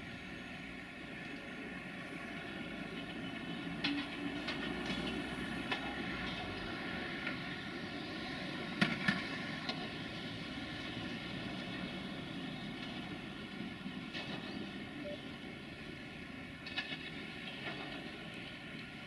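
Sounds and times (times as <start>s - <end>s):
diesel locomotive engine drone: 0.0s - 19.0s
wheels clacking over rail joints: 1.1s - 19.0s.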